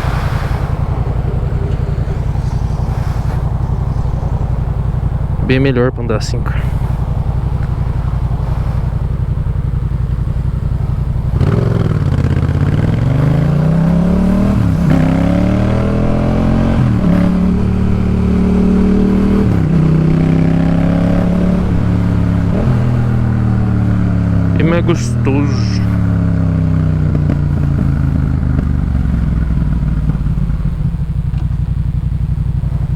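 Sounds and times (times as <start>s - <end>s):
motorcycle engine idling and accelerating: 0.0s - 32.9s.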